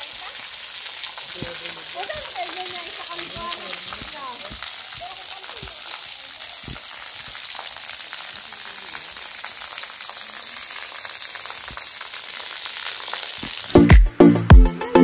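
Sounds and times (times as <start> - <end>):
hose water splashing into pool: 0.0 - 14.1.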